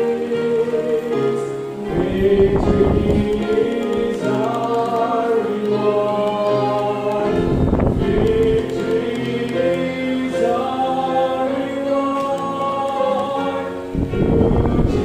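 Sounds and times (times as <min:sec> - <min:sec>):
man singing gospel solo: 0:00.0 - 0:15.0
piano accompaniment: 0:00.0 - 0:15.0.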